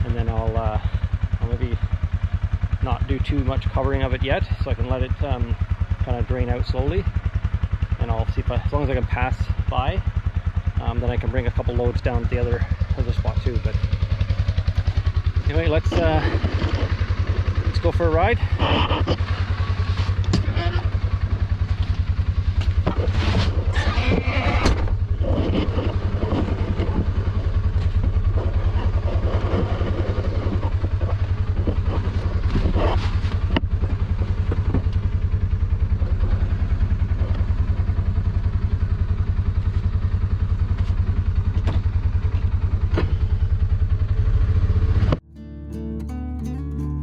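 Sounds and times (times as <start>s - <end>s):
single-cylinder engine running: 0.0s - 45.2s
vehicle rattles and knocks: 0.0s - 45.2s.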